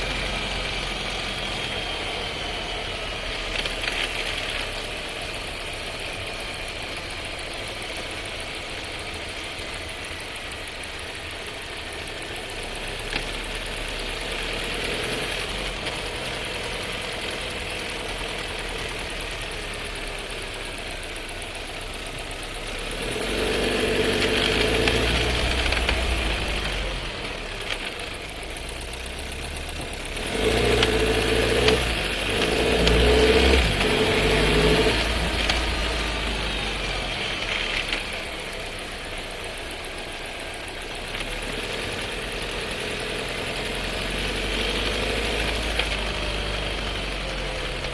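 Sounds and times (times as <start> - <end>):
car engine droning in cabin: 0.0 - 47.9.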